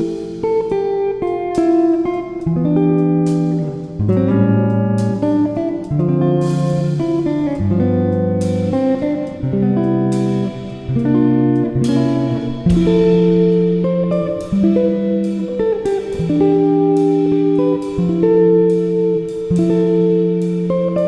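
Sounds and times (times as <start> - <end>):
guitar plucking notes and chords: 0.0 - 21.0.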